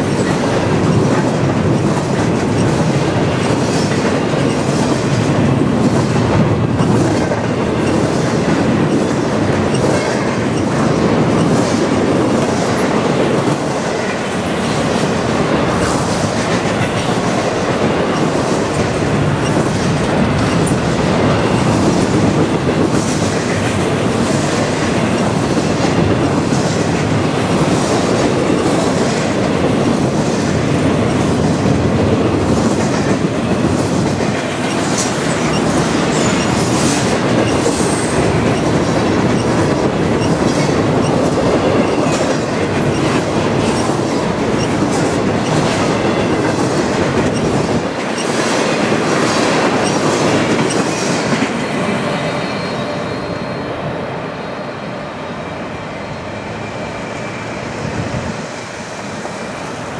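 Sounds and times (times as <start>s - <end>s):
wheels clickety-clack: 0.0s - 52.2s
train wheels rumbling on rail: 0.0s - 59.9s.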